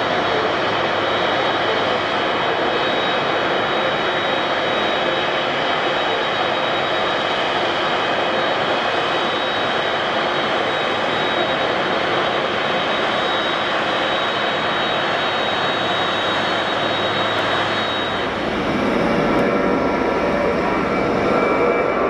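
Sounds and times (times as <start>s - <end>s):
jet engines roaring with whine: 0.0s - 22.0s
jet takeoff roar: 0.0s - 22.0s.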